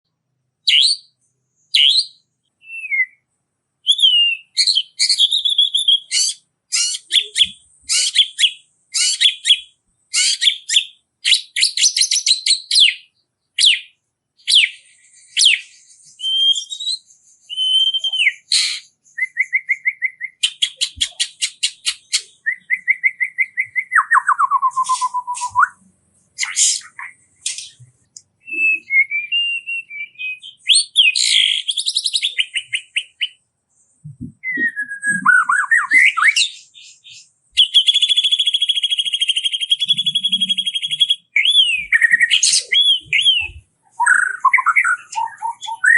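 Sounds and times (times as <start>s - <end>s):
songbird singing: 0.5s - 45.9s.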